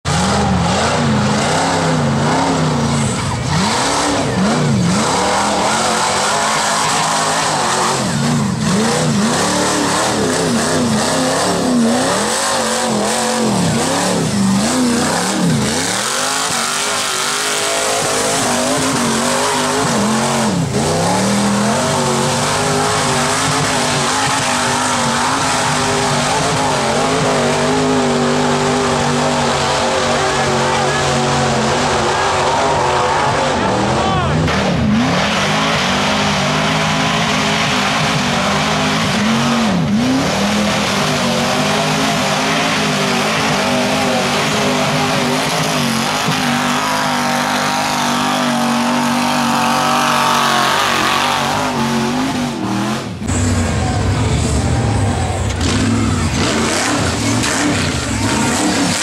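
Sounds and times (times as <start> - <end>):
engine revving hard: 0.0 - 59.0.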